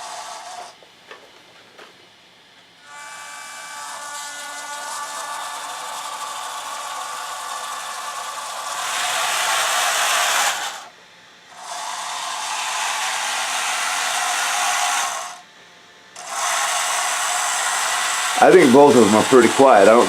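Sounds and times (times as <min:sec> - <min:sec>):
electric motors whirring: 0:00.0 - 0:01.9, 0:02.7 - 0:20.0.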